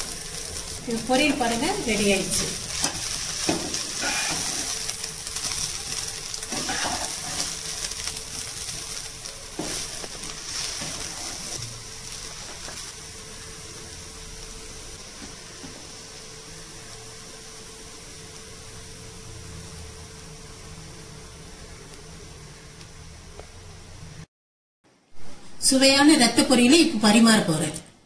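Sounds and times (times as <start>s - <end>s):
food sizzling in a frying pan: 0.0s - 24.3s.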